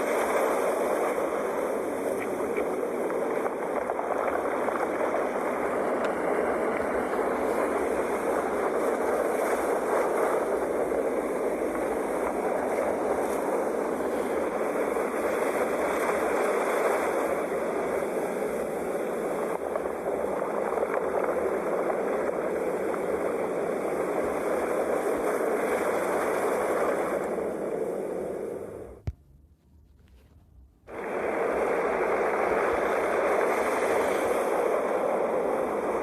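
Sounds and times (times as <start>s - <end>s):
sea waves washing ashore: 0.0s - 29.0s, 30.9s - 36.0s.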